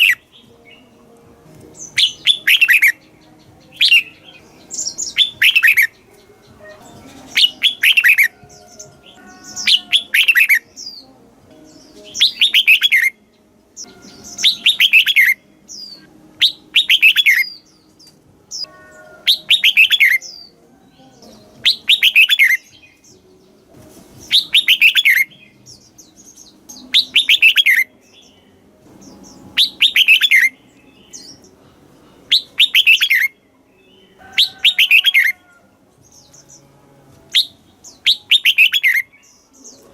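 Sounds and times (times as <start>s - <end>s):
bird singing: 0.0s - 31.7s, 32.3s - 39.9s.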